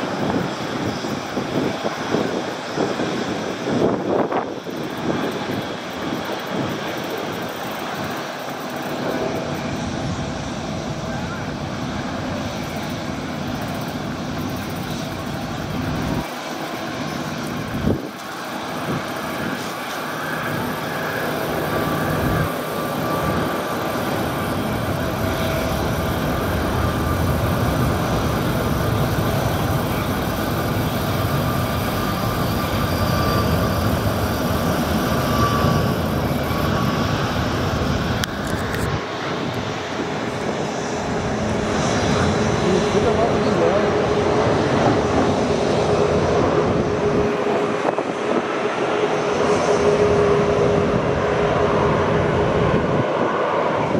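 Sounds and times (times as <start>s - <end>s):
faint high engine whine: 0.0s - 53.9s
jet engines rushing: 0.0s - 53.9s.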